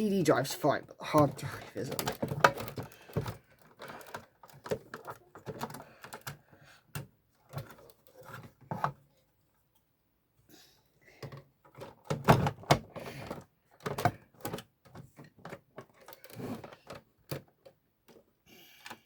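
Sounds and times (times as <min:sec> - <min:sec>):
hard drive parts clicking and knocking: 0:01.0 - 0:09.1, 0:11.2 - 0:19.0.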